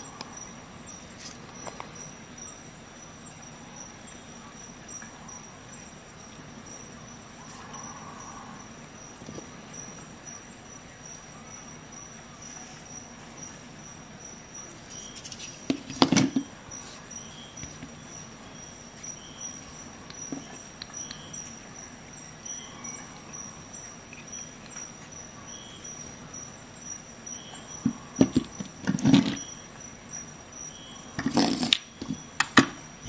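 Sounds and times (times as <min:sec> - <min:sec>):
faint chirps: 0:00.0 - 0:33.0.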